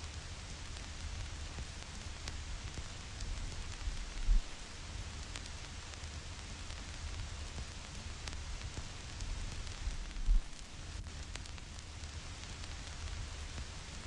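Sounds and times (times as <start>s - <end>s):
vinyl crackles and pops: 0.0s - 14.0s
vinyl record hiss: 0.0s - 14.0s.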